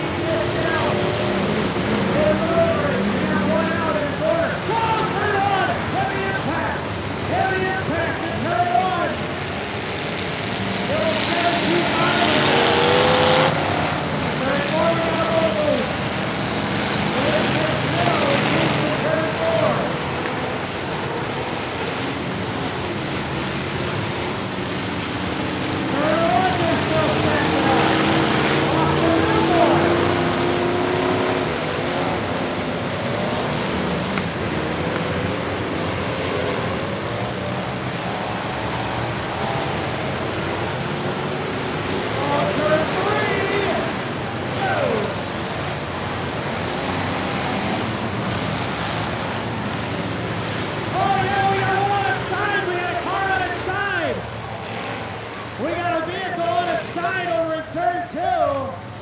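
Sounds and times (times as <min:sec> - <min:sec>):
racing engines running: 0:00.0 - 0:59.0.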